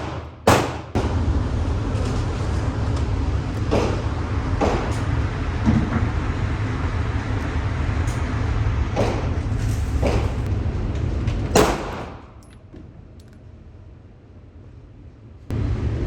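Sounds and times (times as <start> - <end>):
target carrier low rumble: 0.0 - 16.0.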